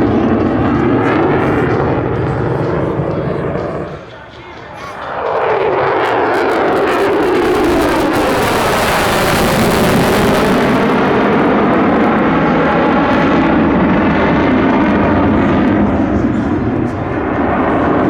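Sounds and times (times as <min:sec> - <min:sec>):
jet engines passing: 0:00.0 - 0:18.0.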